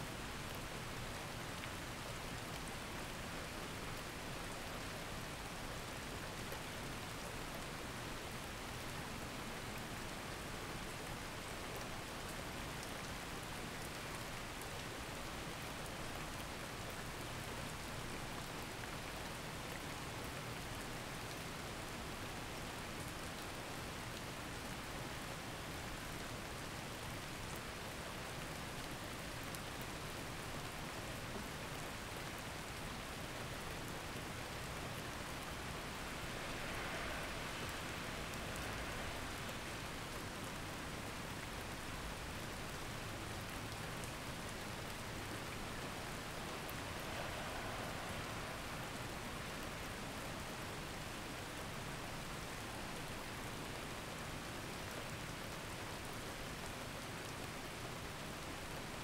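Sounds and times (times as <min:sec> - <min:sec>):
steady rain-like noise: 0:00.0 - 0:59.0.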